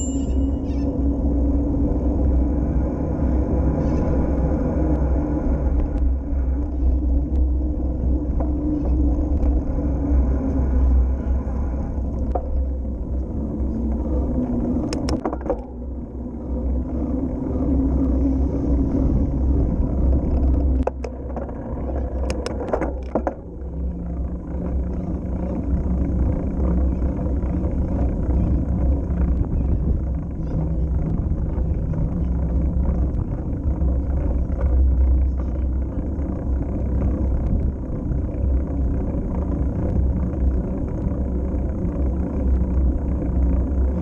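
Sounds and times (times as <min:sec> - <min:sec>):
tyres rolling on asphalt: 0:00.0 - 0:44.0
wind buffeting microphone: 0:00.8 - 0:44.0
bicycle clicks and rattles: 0:04.8 - 0:44.0.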